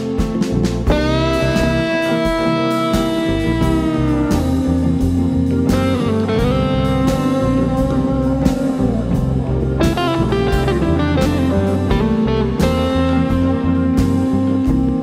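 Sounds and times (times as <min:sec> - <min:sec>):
bass and drums backing: 0:00.0 - 0:15.0
electric guitar lead notes: 0:00.0 - 0:15.0.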